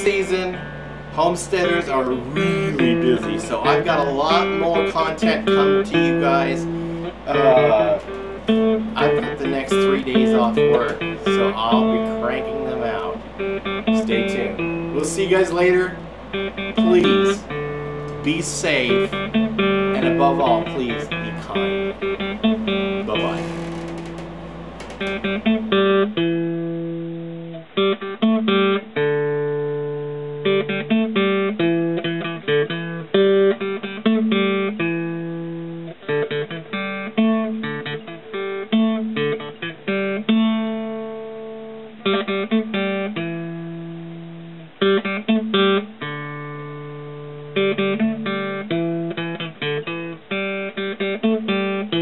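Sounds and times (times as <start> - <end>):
acoustic guitar chords: 0.0 - 52.0.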